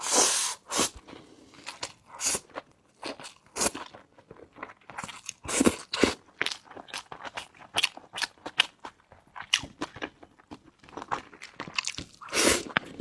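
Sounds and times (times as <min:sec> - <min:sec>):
chewing and crunching: 0:01.0 - 0:13.0.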